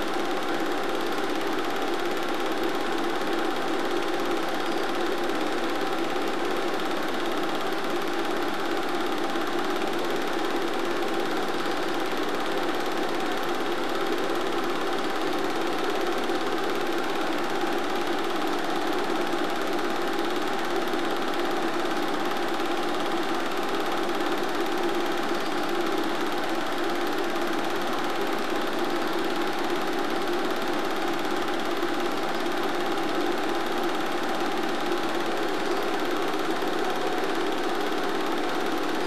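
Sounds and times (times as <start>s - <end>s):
film projector whirring: 0.0s - 39.0s.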